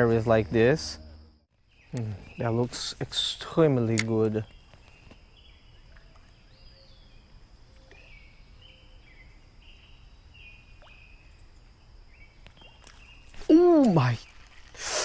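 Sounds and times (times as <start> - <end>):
faint birdsong: 0.0 - 15.0
outdoor background noise: 0.0 - 15.0.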